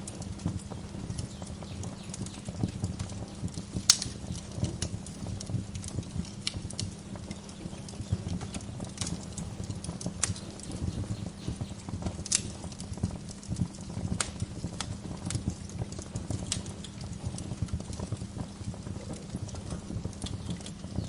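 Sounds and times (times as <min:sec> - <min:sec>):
low steady fire rumble: 0:00.0 - 0:21.0
wood fire crackling and popping: 0:00.0 - 0:21.0.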